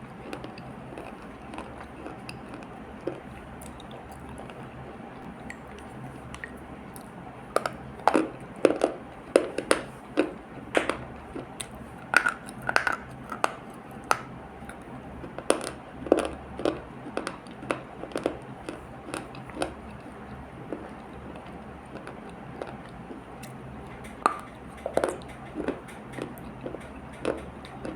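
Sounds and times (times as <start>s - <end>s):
chewing and crunching paste: 0.0s - 27.9s.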